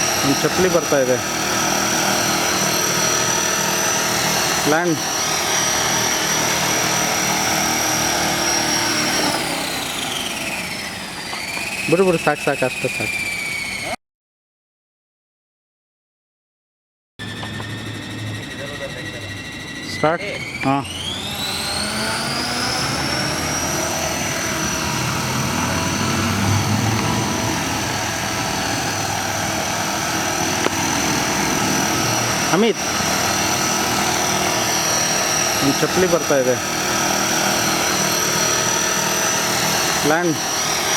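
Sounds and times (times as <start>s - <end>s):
rotor whirring: 0.0s - 14.0s, 17.2s - 40.9s
toy helicopter motor whining: 0.0s - 14.0s, 17.2s - 40.9s.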